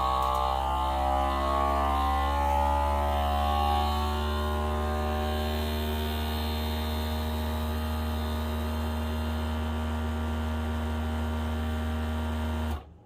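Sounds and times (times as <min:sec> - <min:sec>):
vacuum sealer pump humming: 0:00.0 - 0:12.9.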